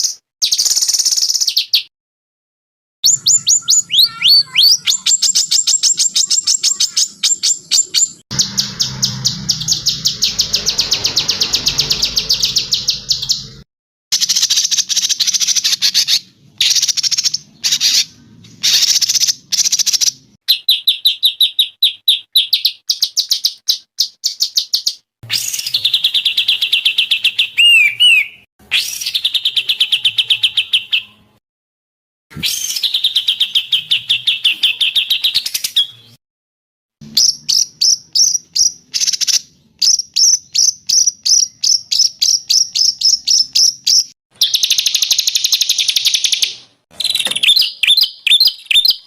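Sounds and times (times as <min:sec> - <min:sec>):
songbirds singing fast trills: 0:03.0 - 0:13.6, 0:14.2 - 0:31.2, 0:32.5 - 0:36.2, 0:37.0 - 0:49.0.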